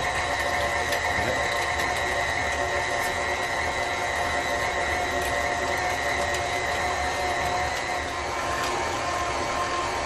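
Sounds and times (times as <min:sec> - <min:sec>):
mixer motor whine: 0:00.0 - 0:10.0.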